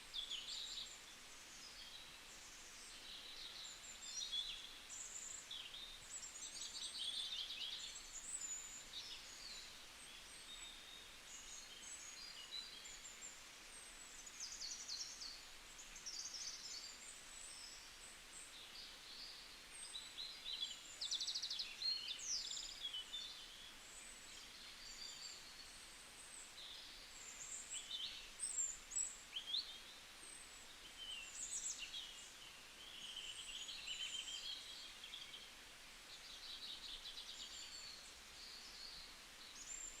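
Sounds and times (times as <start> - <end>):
faint outdoor hiss: 0.0 - 40.0
small birds chirping and singing: 0.0 - 40.0.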